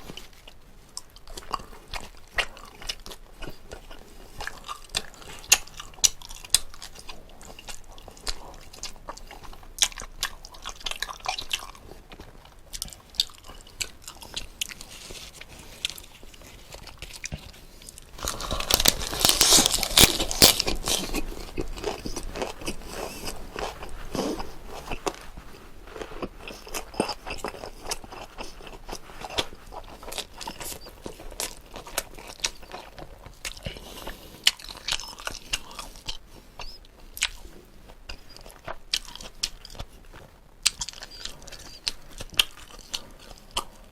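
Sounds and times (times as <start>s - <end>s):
close chewing and biting: 0.0s - 43.9s
food crunching: 0.0s - 43.9s.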